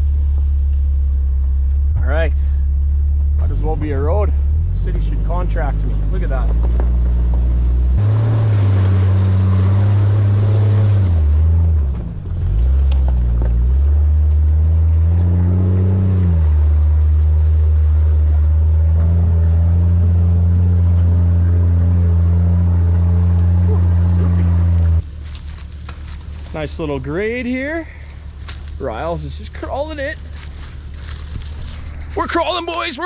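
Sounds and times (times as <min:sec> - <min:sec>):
engine droning at low speed: 0:00.0 - 0:33.0.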